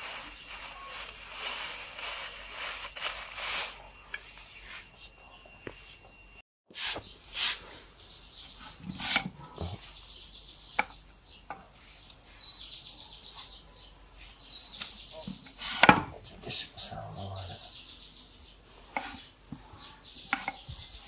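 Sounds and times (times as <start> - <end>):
birds chirping: 0.0 - 6.4, 7.0 - 21.0.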